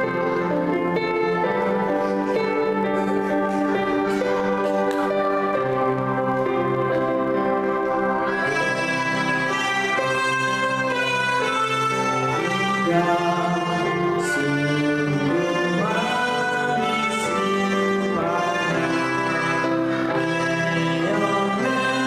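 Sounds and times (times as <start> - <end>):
melodicas playing held notes: 0.0 - 22.0.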